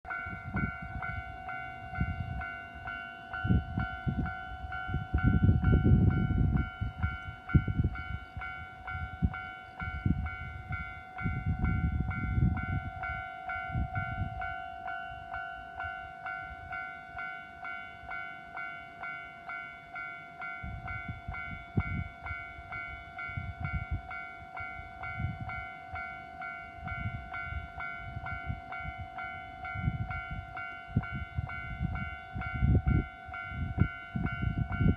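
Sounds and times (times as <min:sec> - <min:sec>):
train rumbling past: 0:00.1 - 0:34.9.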